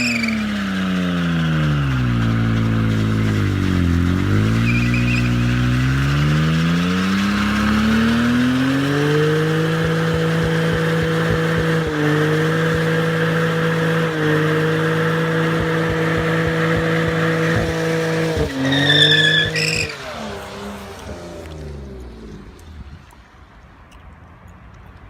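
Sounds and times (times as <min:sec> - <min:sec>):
car engine revving: 0:00.0 - 0:23.2.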